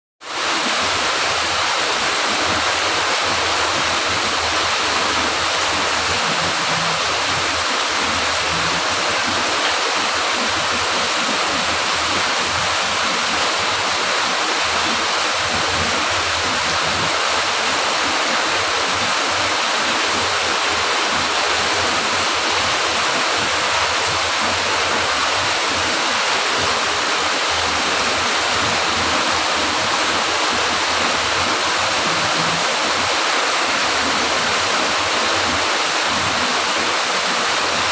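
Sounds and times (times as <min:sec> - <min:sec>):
steady rain: 0:00.2 - 0:37.9.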